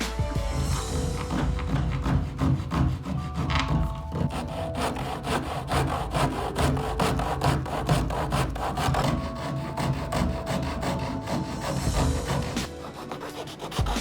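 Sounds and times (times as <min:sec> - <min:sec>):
hand tool scraping wood: 0:00.0 - 0:14.0.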